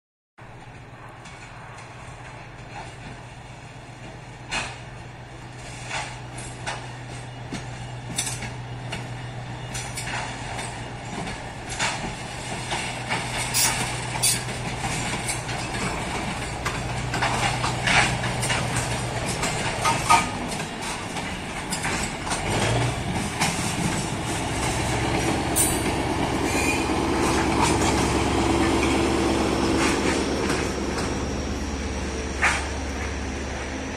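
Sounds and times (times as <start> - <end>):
wheels clanking over rail joints: 0.4 - 33.9
diesel engine running: 1.8 - 33.9.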